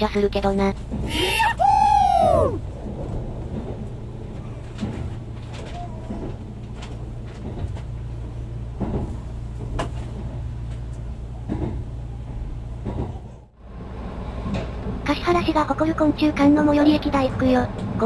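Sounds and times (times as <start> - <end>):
train rumble from inside: 0.0 - 18.0.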